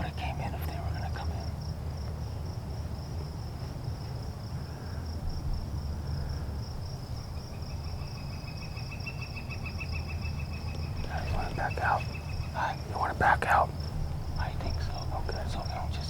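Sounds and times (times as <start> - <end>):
insects trilling: 0.0 - 16.0
lower insect trill: 0.0 - 16.0.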